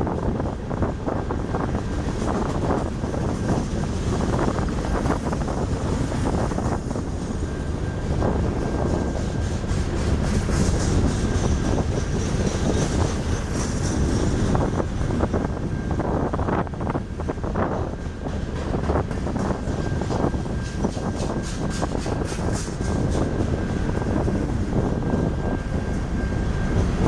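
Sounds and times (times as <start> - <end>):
freight train rumbling past: 0.0 - 27.0
wheels clattering on rails: 0.0 - 27.0.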